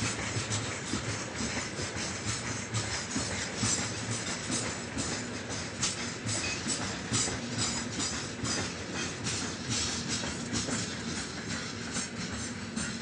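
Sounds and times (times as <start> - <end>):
train wheels rumbling on rail: 0.0 - 13.0
wheel clacks over rail joints: 0.0 - 13.0.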